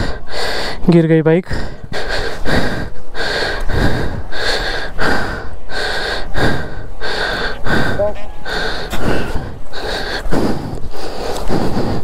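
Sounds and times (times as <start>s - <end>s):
person breathing heavily: 0.0s - 12.0s.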